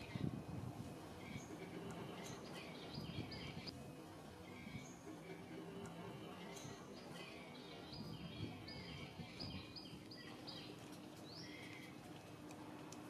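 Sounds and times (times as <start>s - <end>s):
birds chirping: 0.0s - 13.0s
faint outdoor hiss: 0.0s - 13.0s.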